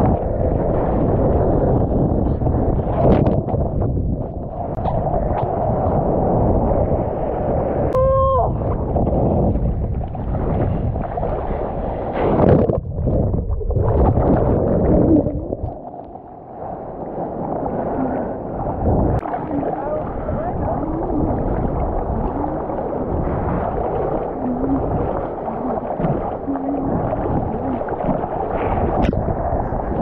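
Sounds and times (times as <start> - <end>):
seawater rushing and splashing: 0.0 - 30.0
wind buffeting microphone: 0.0 - 30.0.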